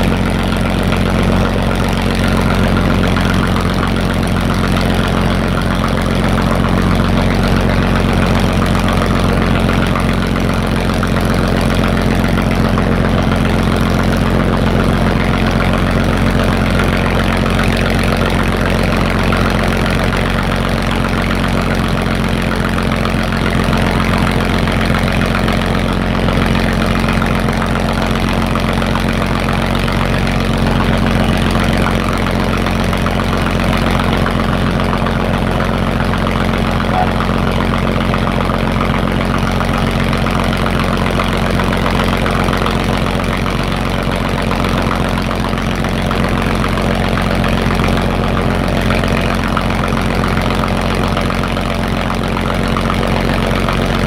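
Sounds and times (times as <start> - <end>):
fire engine motor running: 0.0 - 54.0.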